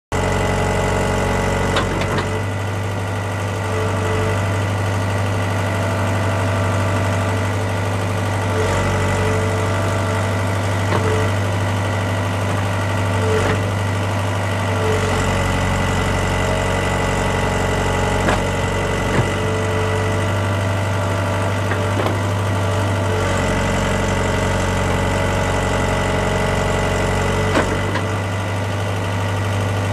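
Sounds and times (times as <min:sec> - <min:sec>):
tractor engine idling: 0:00.2 - 0:29.9.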